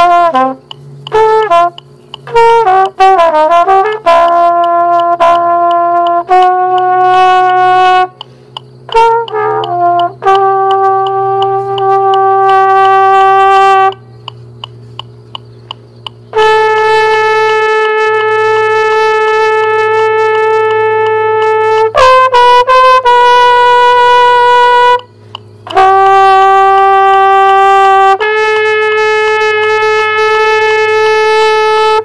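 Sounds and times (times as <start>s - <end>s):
mellophone long held notes: 0.0s - 32.0s.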